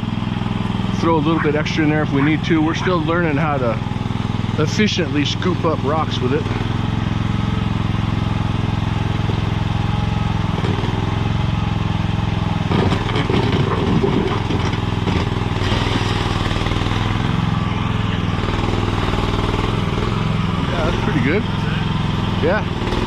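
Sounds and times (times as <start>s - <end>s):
small engine running under load: 0.0s - 23.0s.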